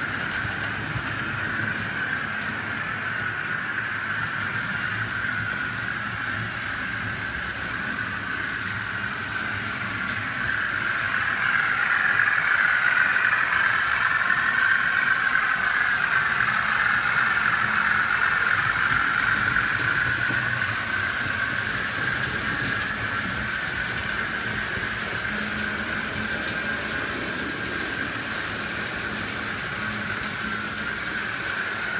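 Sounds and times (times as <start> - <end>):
model train whirring rumble: 0.0 - 31.9.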